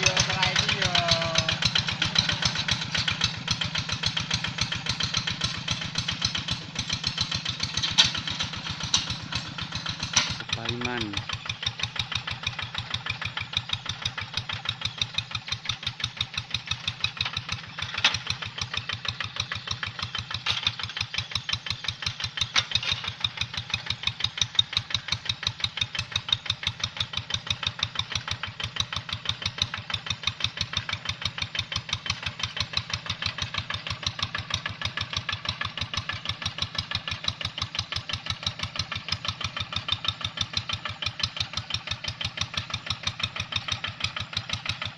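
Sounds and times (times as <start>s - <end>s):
hand tractor engine chugging: 0.0s - 44.9s.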